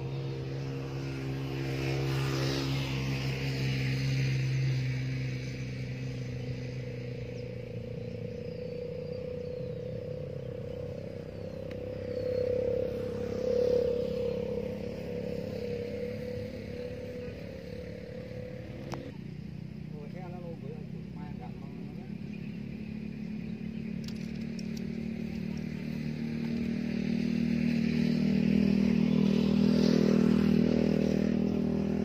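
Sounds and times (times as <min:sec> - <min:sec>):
steady drone: 0:00.0 - 0:32.0
vehicle engine droning: 0:00.0 - 0:32.0.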